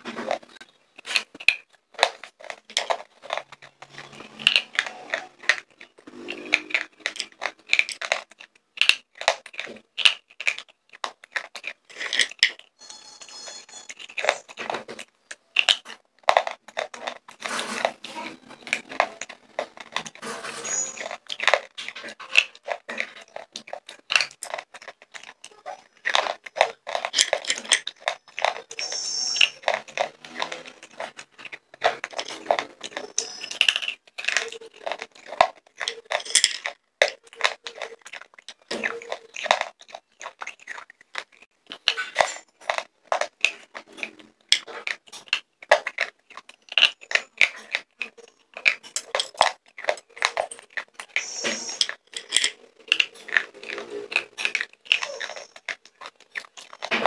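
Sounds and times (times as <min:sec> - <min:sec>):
crunching and grinding chewing: 0:00.0 - 0:57.0.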